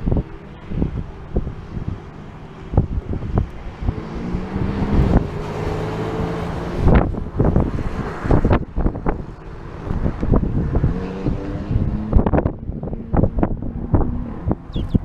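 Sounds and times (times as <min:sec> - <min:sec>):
distant car engine: 0:00.0 - 0:15.0
wind buffeting microphone: 0:00.0 - 0:15.0.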